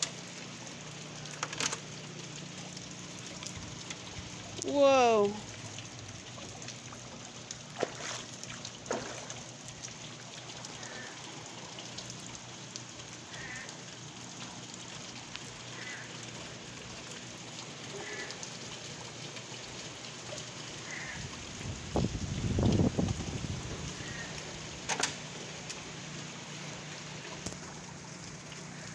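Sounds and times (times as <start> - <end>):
rain falling on water: 0.0 - 28.9.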